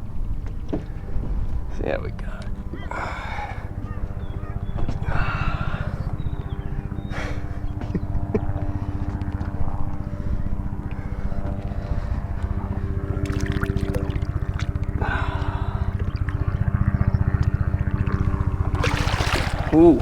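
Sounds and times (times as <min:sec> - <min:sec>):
outboard motor running: 0:00.6 - 0:20.0.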